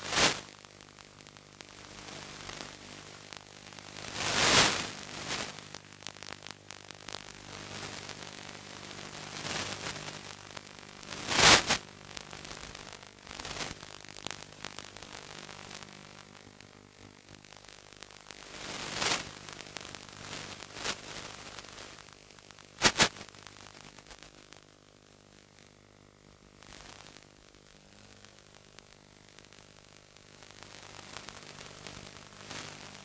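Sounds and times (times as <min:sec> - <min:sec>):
faint steady hum: 0:00.0 - 0:33.0
radio static hiss: 0:00.0 - 0:33.0.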